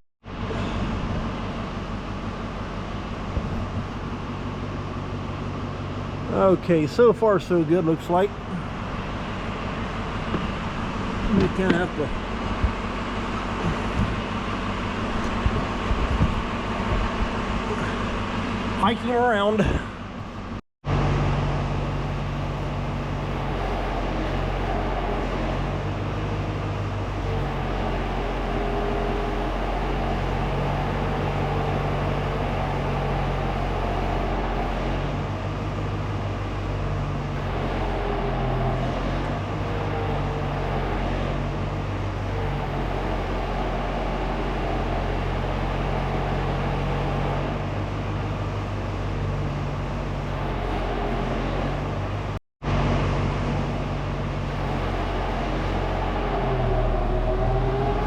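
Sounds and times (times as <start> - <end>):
truck engine running: 0.2 - 58.0.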